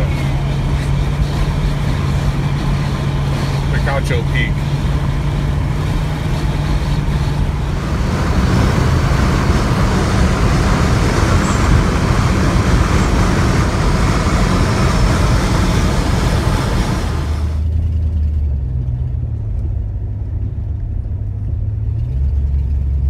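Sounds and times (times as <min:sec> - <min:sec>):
car interior road and engine noise: 0:00.0 - 0:23.0
low rumble: 0:00.0 - 0:23.0.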